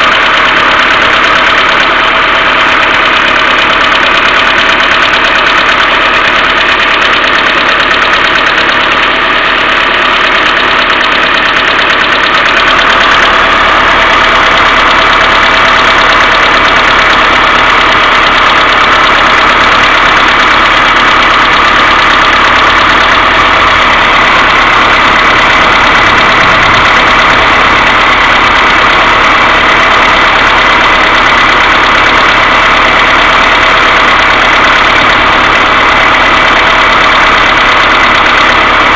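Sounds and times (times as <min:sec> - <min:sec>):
car engine idling: 0:00.0 - 0:38.9
continuous engine hum: 0:00.0 - 0:38.9
rapid ticking valve knock: 0:00.0 - 0:38.9.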